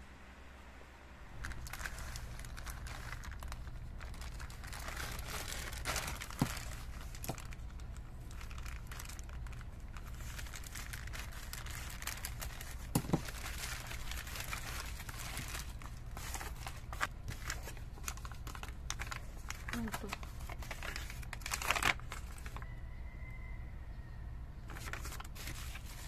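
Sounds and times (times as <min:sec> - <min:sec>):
steady low hum: 0:00.0 - 0:26.0
plastic mailer bag crinkling: 0:01.3 - 0:22.8, 0:24.7 - 0:26.0.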